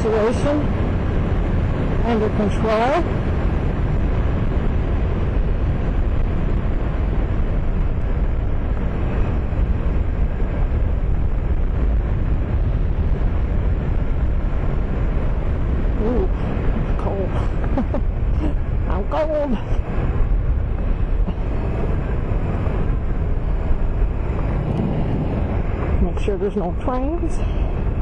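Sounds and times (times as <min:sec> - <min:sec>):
road noise: 0:00.0 - 0:28.0
wind rush on microphone: 0:00.0 - 0:28.0.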